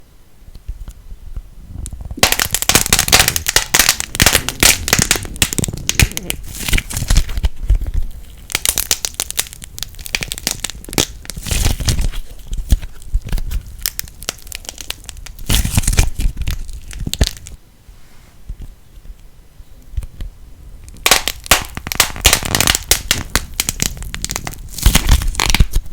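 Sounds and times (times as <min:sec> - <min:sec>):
plasticine crackling and popping: 0:00.5 - 0:17.6, 0:18.5 - 0:25.9.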